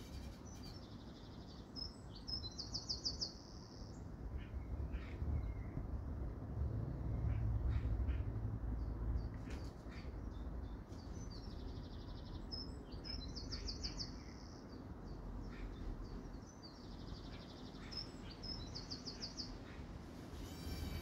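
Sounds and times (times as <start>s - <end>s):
songbird singing: 0.0s - 6.2s, 7.1s - 21.0s
low steady background rumble: 0.0s - 21.0s.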